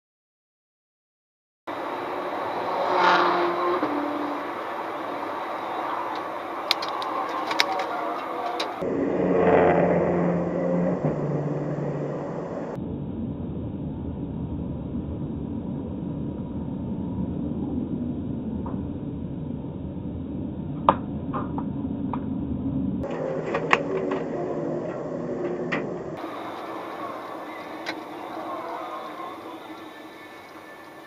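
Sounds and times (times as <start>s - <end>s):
car driving road noise: 1.7s - 31.0s.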